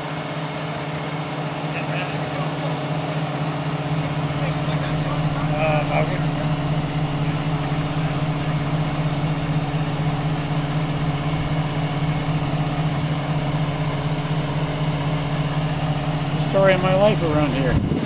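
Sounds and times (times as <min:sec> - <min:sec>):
crane engine low hum: 0:00.0 - 0:18.0.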